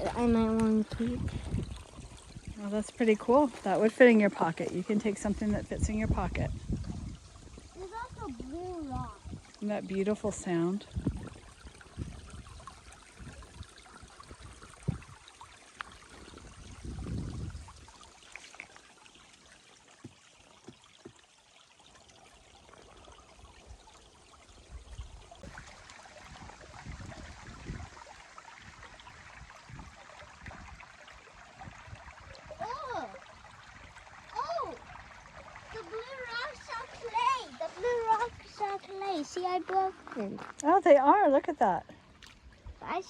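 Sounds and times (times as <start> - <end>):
creek water trickling over rocks: 0.0 - 43.0.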